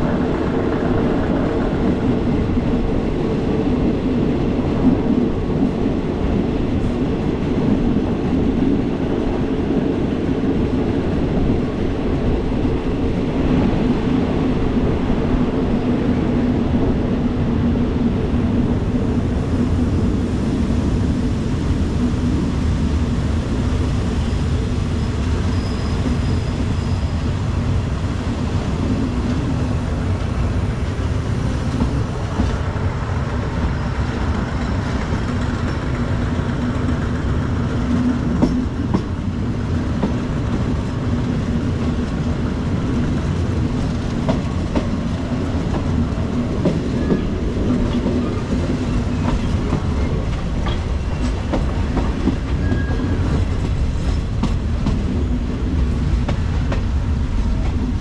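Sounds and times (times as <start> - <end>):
clickety-clack of rail joints: 0.0 - 58.0
wheels rumbling on rails: 0.0 - 58.0.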